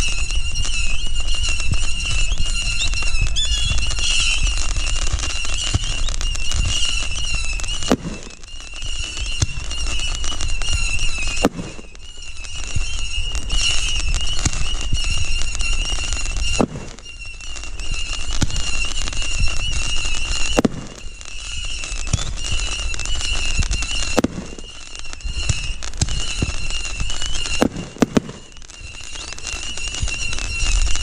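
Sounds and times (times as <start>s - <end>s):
fireworks bangs: 0.0s - 31.0s
fireworks crackling: 0.0s - 31.0s
fireworks whistling: 0.0s - 31.0s.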